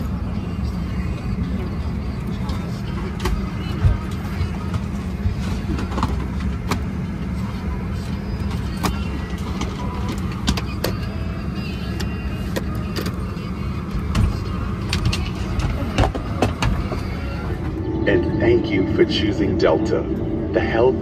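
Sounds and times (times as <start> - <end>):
low cabin rumble: 0.0 - 21.0.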